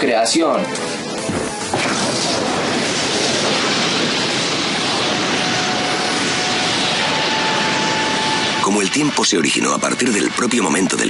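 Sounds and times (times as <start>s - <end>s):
rushing roar: 1.8s - 11.0s.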